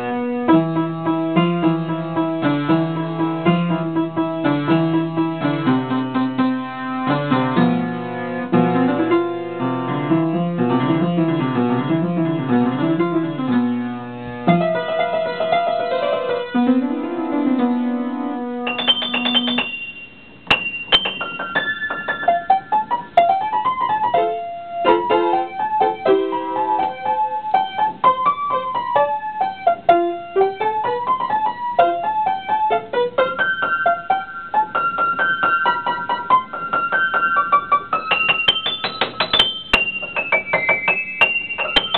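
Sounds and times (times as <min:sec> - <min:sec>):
solo piano piece: 0:00.0 - 0:41.9.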